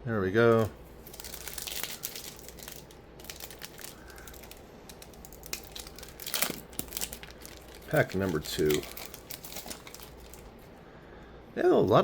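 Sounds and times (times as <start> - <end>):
card pack wrapper crinkling: 0.5 - 10.7.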